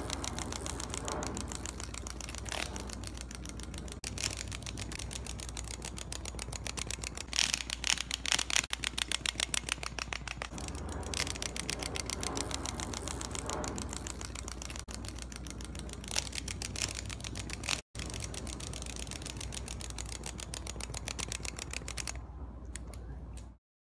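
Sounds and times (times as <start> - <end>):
steady low hum: 0.0 - 23.6
toy mechanisms clicking: 0.0 - 23.6.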